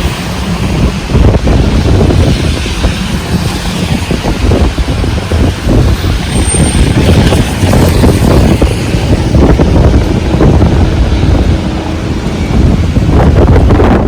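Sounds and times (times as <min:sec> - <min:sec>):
gusting wind buffeting microphone: 0:00.0 - 0:14.0.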